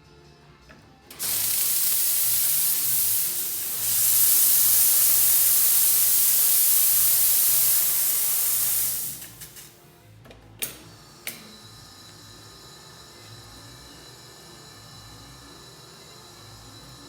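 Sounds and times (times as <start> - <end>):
espresso machine steam hissing: 1.1 - 9.8, 11.0 - 17.0.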